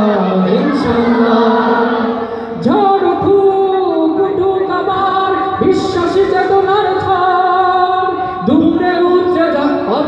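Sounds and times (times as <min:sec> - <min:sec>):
men singing into microphones: 0:00.0 - 0:10.0.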